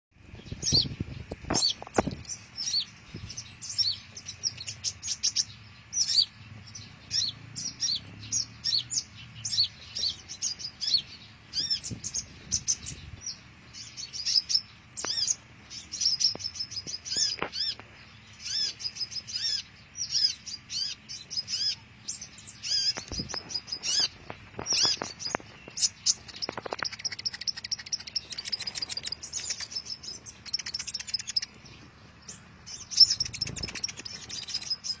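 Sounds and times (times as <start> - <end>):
birds chirping and twittering: 0.1 - 35.0.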